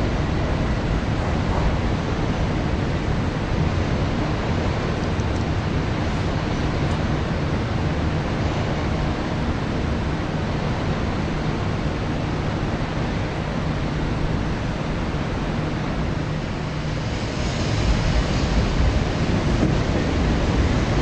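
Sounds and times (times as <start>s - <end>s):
train rumbling through station: 0.0s - 21.0s
wind on the microphone: 0.0s - 21.0s.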